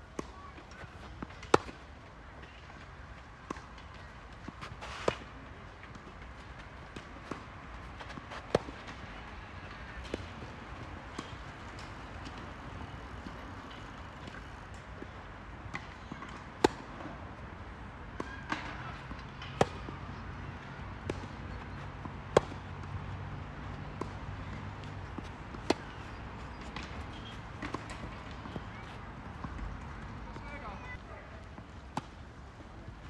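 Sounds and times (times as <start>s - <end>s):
racquets hitting tennis ball: 0.1s - 31.0s
tennis ball bouncing: 0.2s - 1.8s, 3.4s - 15.1s, 15.7s - 17.1s, 18.2s - 30.9s.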